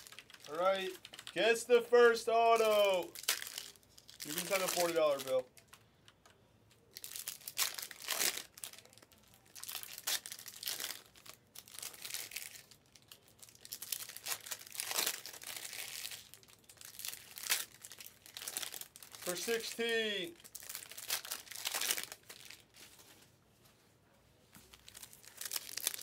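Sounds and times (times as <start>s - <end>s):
foil wrappers crinkling: 0.0s - 5.8s, 6.9s - 23.1s, 24.7s - 26.0s.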